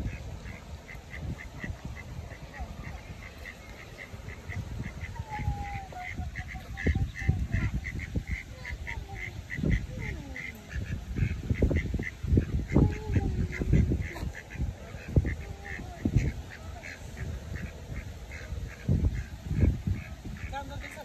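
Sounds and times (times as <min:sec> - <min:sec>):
low rumbling on microphone: 0:00.0 - 0:20.6
ducklings peeping: 0:00.0 - 0:21.0.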